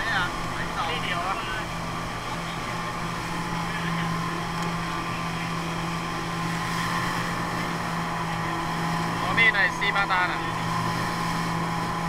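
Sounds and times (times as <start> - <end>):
boat engine droning: 0.0 - 12.0
rush of wind and water: 0.0 - 12.0.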